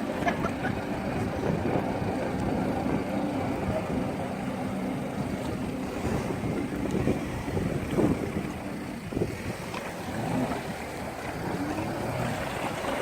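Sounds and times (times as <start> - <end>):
engine running steadily: 0.0 - 13.0
wind noise on microphone: 0.7 - 4.2, 5.3 - 13.0.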